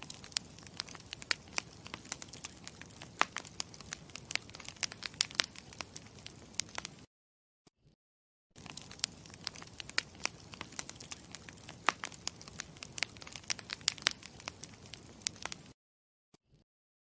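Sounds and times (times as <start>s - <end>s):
campfire crackling and popping: 0.0s - 7.1s, 8.6s - 15.8s.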